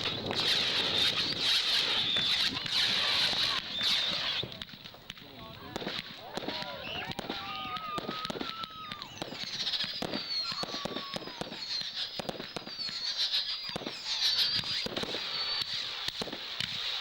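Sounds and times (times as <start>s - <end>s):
firework pops and bangs: 0.0s - 17.0s
firework whistles: 0.0s - 17.0s.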